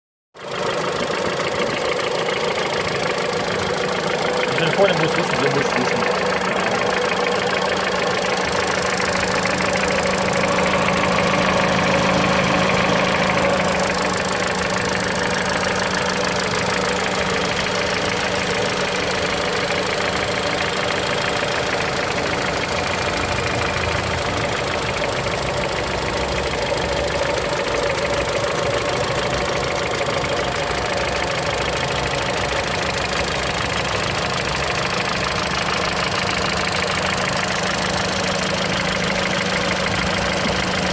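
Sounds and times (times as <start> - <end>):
car engine idling with knock: 0.4 - 40.9.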